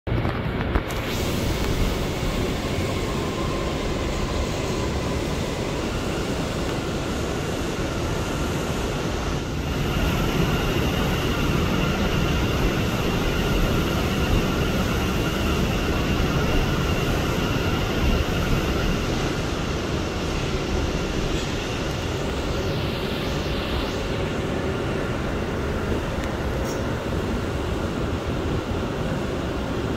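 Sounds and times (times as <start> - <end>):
faint high whine: 0.1 - 29.9
subway car wheels rumbling on track: 0.1 - 29.9.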